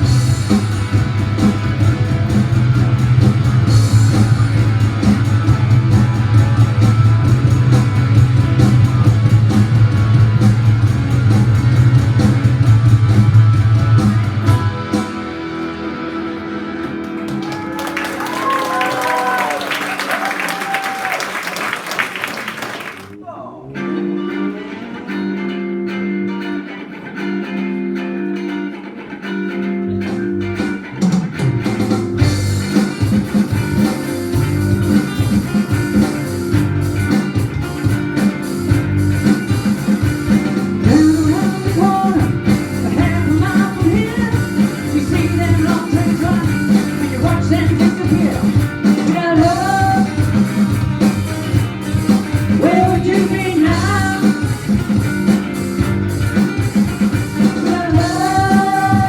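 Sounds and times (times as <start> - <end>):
held guitar chords: 0.0 - 20.4, 23.2 - 59.0
bass guitar: 0.0 - 21.2, 23.7 - 59.0
drums: 0.0 - 23.2, 28.3 - 59.0.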